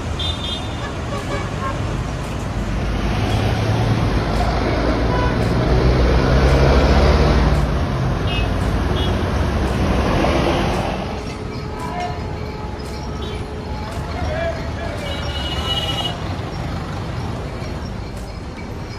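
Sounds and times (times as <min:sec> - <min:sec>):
heavy vehicle engine passing: 0:00.0 - 0:18.9
street traffic: 0:00.0 - 0:18.9.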